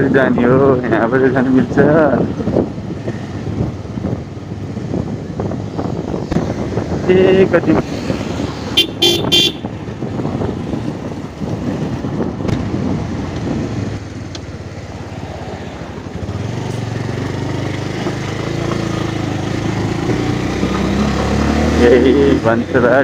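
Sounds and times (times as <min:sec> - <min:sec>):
wind and road noise: 0:00.0 - 0:23.0.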